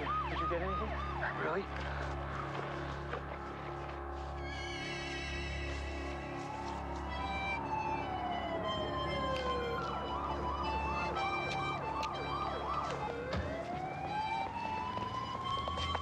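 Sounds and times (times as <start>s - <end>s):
emergency vehicle siren: 0.0s - 16.0s.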